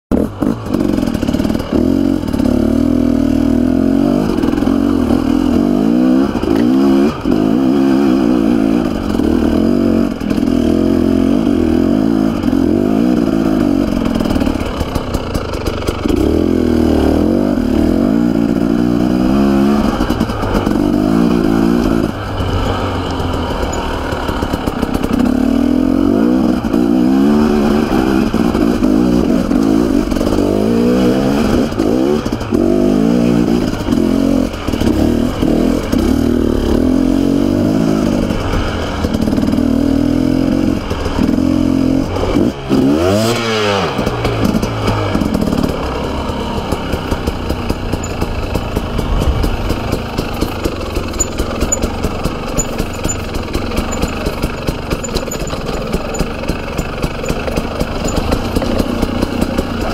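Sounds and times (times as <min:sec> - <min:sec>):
bike rattling: 0:00.1 - 0:59.9
dirt bike engine revving: 0:00.1 - 0:59.9.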